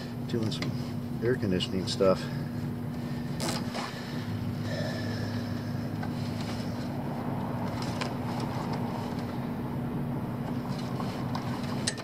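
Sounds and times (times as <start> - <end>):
air conditioning unit humming: 0.0 - 12.0.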